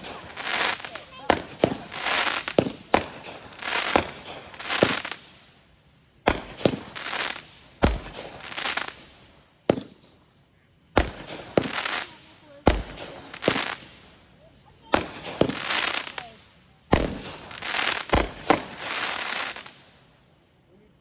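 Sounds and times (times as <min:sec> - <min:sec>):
fireworks bangs with hissing tails: 0:00.0 - 0:20.8.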